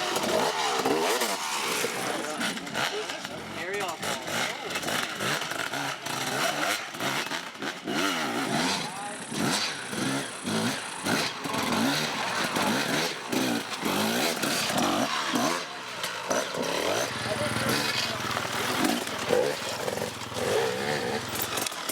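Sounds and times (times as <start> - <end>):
motorcycle engines revving: 0.0 - 21.9.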